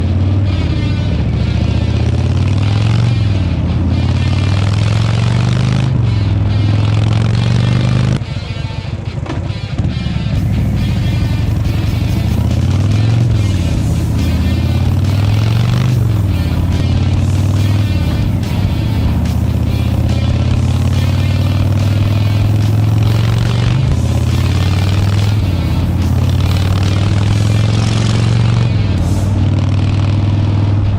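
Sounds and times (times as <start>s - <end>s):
motorcycle engine rumbling: 0.0s - 30.9s.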